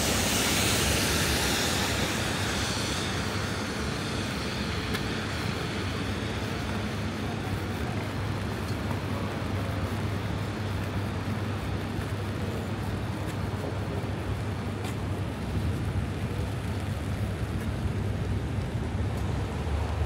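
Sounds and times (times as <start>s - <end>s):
vehicle engines: 0.0s - 20.0s.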